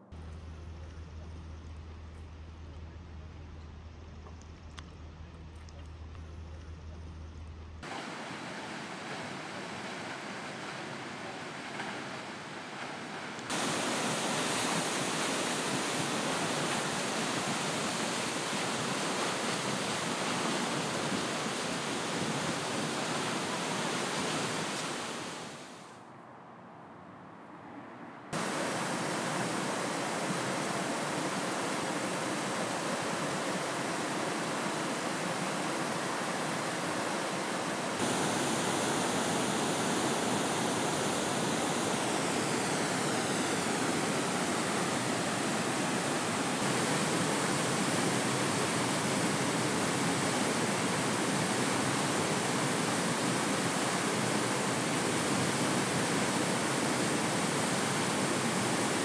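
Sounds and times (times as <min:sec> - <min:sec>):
rush of falling water: 0:07.8 - 0:25.9, 0:28.4 - 0:59.0.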